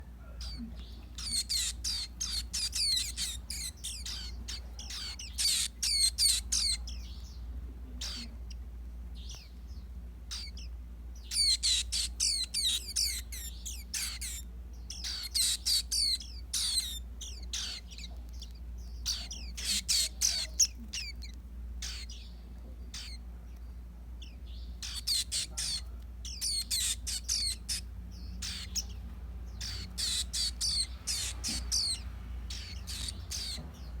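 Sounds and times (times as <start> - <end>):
steady low hum: 0.0 - 34.0
bird twittering in high chirps: 0.2 - 8.6, 9.2 - 34.0.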